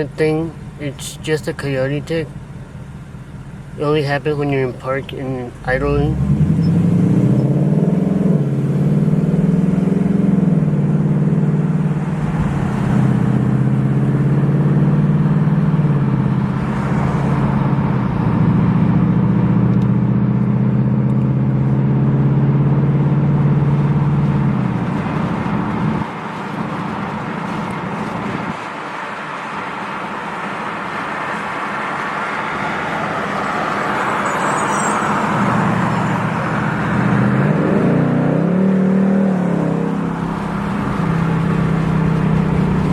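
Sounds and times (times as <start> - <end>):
car engine accelerating: 0.0 - 42.9
road noise: 0.0 - 42.9.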